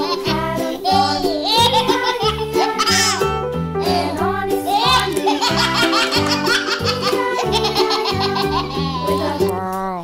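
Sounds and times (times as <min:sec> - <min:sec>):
baby giggling: 0:00.0 - 0:04.0, 0:04.7 - 0:09.4
children's music with bouncing bass: 0:00.0 - 0:10.0.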